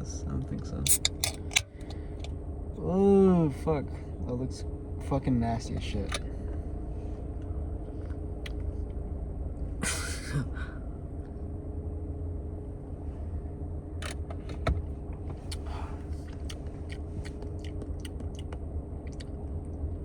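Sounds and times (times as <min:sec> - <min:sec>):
low rumble inside car: 0:00.0 - 0:20.0.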